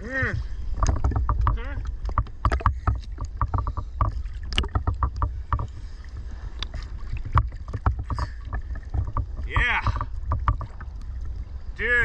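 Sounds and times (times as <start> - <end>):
seawater sloshing and splashing: 0.0 - 11.9
low rumble of water and wind: 0.0 - 12.0.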